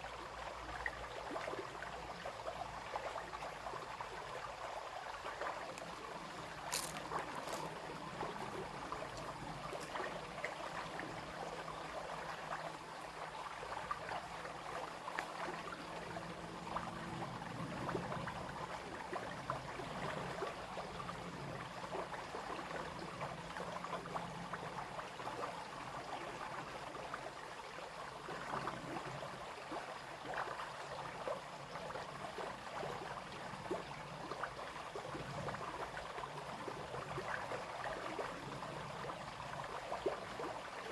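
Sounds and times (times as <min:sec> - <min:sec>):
brook babbling: 0:00.0 - 0:40.9.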